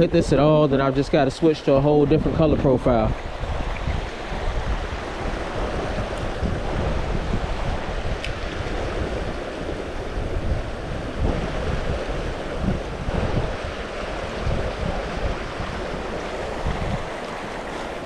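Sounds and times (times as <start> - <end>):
wind buffeting microphone: 0.0 - 18.0
rushing river water: 0.8 - 18.0.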